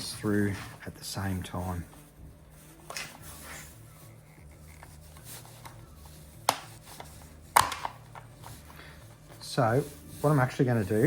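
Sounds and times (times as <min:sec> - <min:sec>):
hands rubbing plastic: 0:00.0 - 0:11.0.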